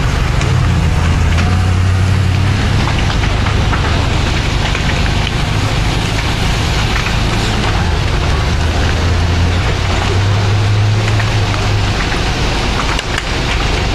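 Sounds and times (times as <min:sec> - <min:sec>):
building fire crackling and hissing: 0:00.0 - 0:13.9
vehicle engine droning: 0:00.0 - 0:13.9.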